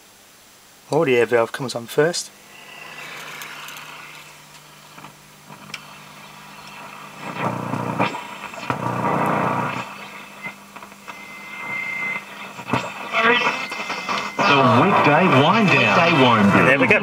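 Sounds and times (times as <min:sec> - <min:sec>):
radio low hum: 0:00.9 - 0:17.0
radio static burst: 0:01.3 - 0:17.0.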